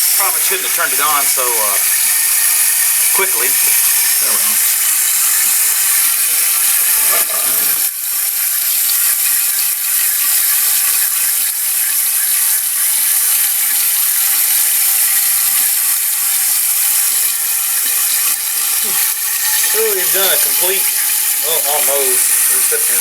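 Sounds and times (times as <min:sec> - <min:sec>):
water rushing into toilet tank: 0:00.0 - 0:23.0.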